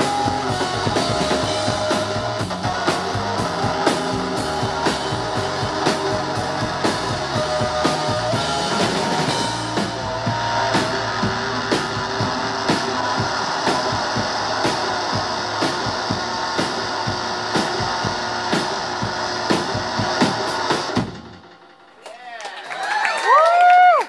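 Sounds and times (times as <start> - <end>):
distorted electric guitars: 0.0 - 22.0
drum kit beat: 0.0 - 22.0
bass guitar: 0.0 - 22.2.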